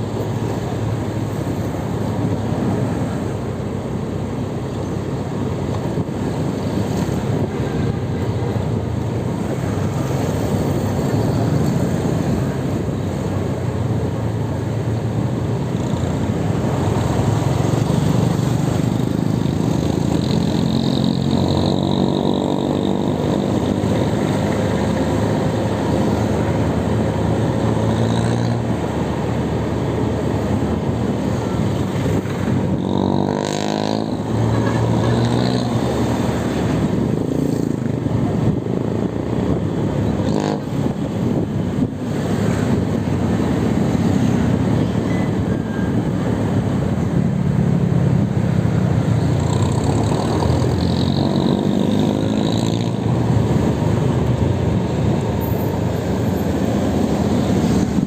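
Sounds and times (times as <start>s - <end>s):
road noise: 0.0s - 58.0s
vehicle engines running: 0.0s - 58.0s.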